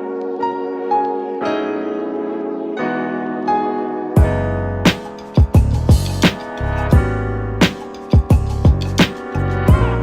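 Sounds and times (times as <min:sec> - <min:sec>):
piano and keyboard chords: 0:00.0 - 0:10.0.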